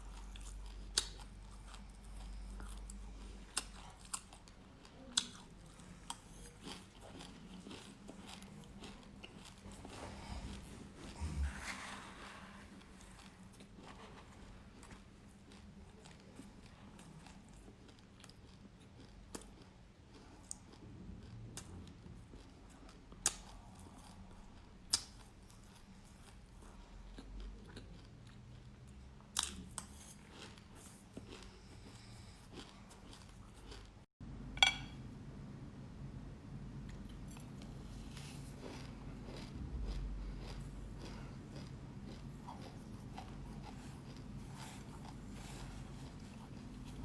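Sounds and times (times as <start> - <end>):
chewing seeds crunching: 0.0 - 11.5, 13.0 - 34.0, 36.9 - 47.0.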